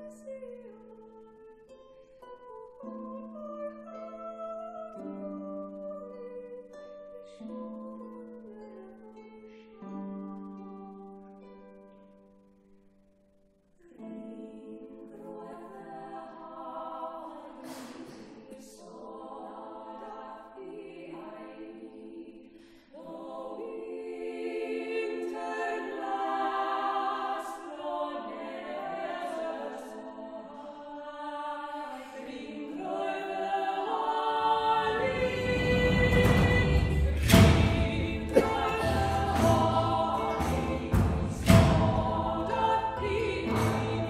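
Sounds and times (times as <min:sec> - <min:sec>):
women singing in harmony: 0:02.7 - 0:09.8, 0:13.8 - 0:44.0.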